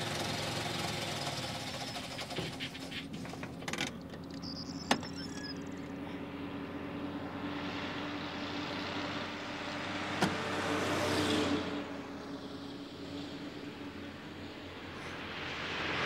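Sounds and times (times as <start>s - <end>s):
truck passing by: 0.0s - 16.0s.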